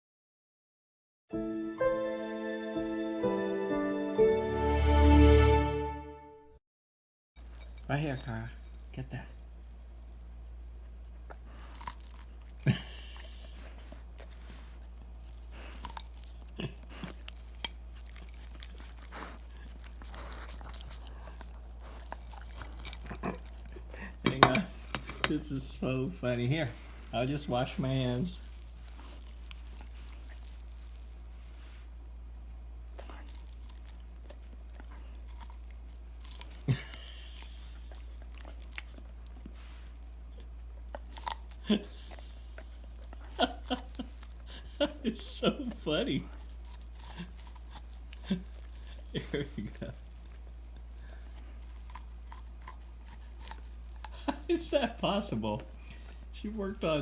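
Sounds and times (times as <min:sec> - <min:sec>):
dog chewing corn cob: 0:07.4 - 0:57.0.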